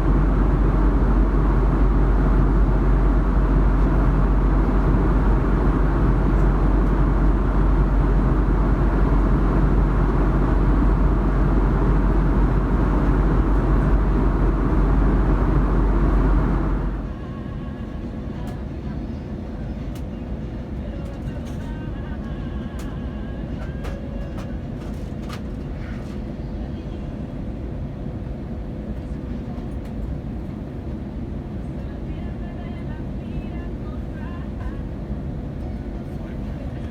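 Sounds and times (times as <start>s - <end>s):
aircraft cabin engine rumble: 0.0s - 36.9s.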